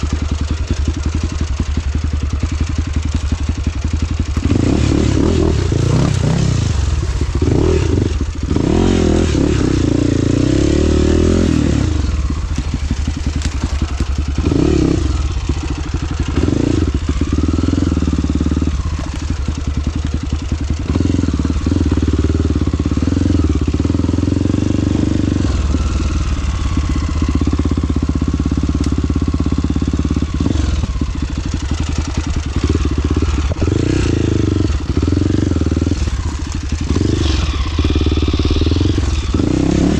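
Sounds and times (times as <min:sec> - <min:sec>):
engine clatter: 0:00.0 - 0:39.9
motorcycle engine revving: 0:00.0 - 0:39.9.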